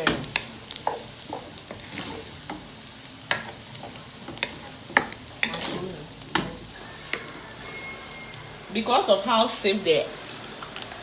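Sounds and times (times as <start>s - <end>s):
vegetables sizzling in pan: 0.0s - 11.0s.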